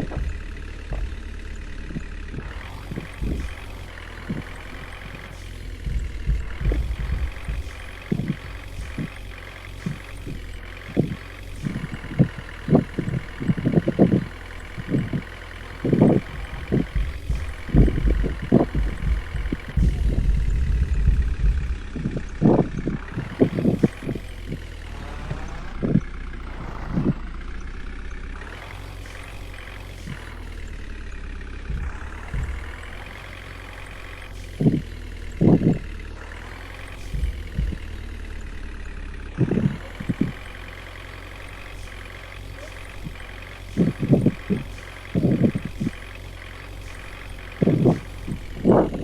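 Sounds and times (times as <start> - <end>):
knocks and thumps: 0.0 - 30.8, 31.7 - 38.4, 39.4 - 49.0
heavy low rumble: 0.0 - 49.0
truck engine running: 0.0 - 49.0.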